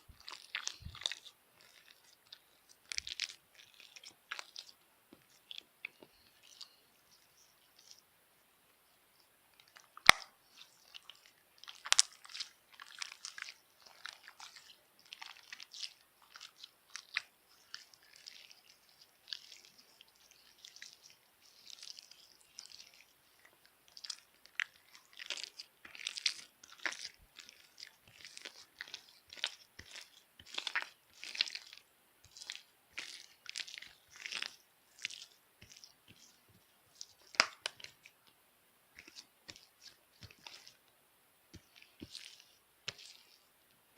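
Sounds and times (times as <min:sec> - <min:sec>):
stiff slime being squished: 0:00.1 - 0:08.0, 0:09.6 - 0:38.3, 0:38.9 - 0:40.8, 0:41.5 - 0:43.5.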